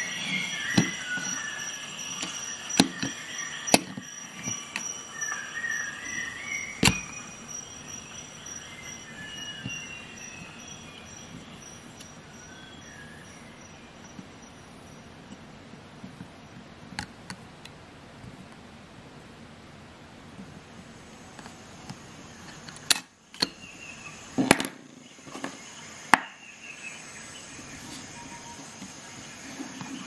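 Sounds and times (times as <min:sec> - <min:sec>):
faint squeaky chirps: 0:00.0 - 0:15.6, 0:20.9 - 0:30.0.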